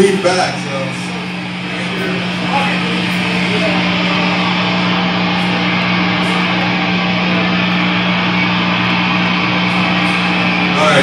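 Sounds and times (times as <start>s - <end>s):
guitar amplifier drone with hiss: 0.0s - 11.0s.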